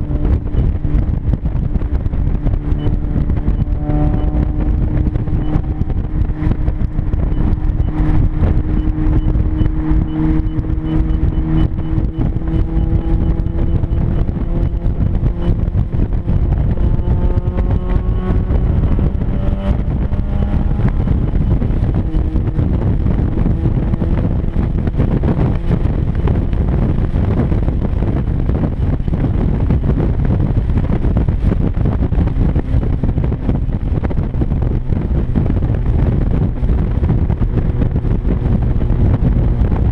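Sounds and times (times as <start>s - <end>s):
car engine with exhaust leak: 0.0s - 39.9s.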